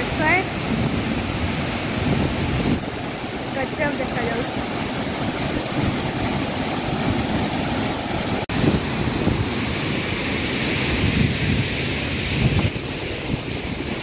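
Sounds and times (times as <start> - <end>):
water rushing over rocks: 0.0 - 14.0
wind buffeting microphone: 0.0 - 14.0.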